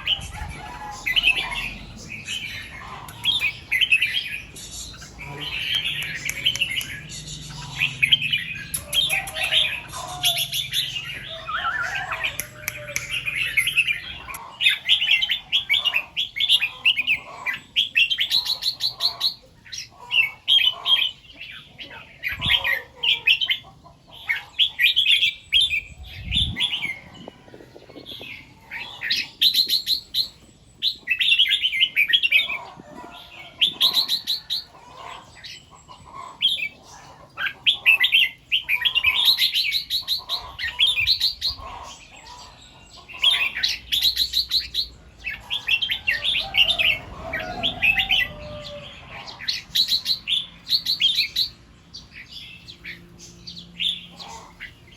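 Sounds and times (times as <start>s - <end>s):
bird singing warbled phrases: 0.0s - 54.9s.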